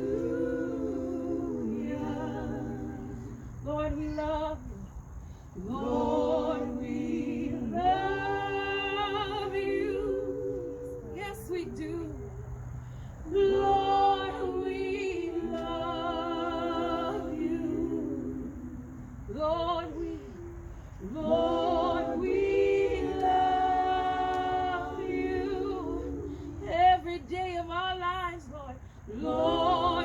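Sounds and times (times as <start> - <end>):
unaccompanied worship singing: 0.0 - 30.0.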